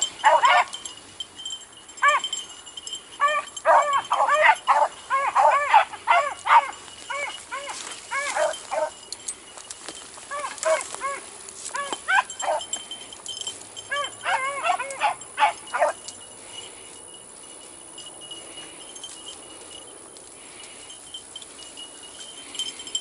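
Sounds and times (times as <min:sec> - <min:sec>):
dogs baying: 0:00.0 - 0:01.0, 0:01.9 - 0:09.4, 0:10.2 - 0:23.0.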